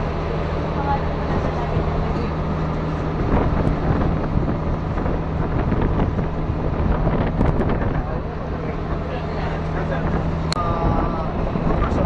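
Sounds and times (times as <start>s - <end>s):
boat engine droning: 0.0s - 12.0s
water rushing past hull: 0.0s - 12.0s
wind buffeting microphone: 0.0s - 12.0s.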